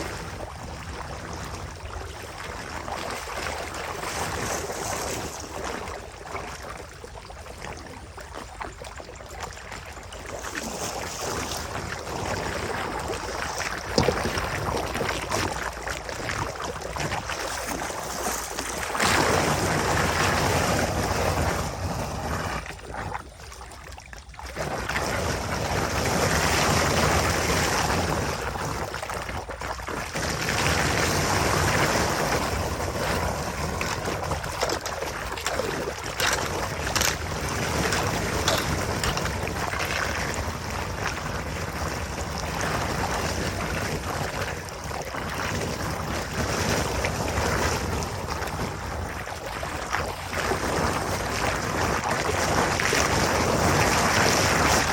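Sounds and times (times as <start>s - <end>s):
rushing water: 0.0s - 54.9s.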